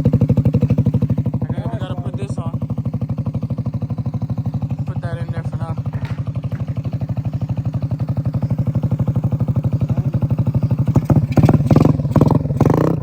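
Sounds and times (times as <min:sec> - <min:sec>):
motorbike engine idling and revving: 0:00.0 - 0:13.0.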